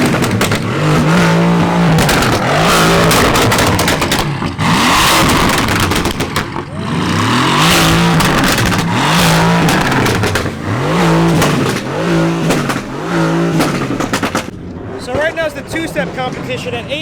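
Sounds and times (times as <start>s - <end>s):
car engine revving: 0.0s - 17.0s
exhaust pops and crackles: 0.0s - 17.0s.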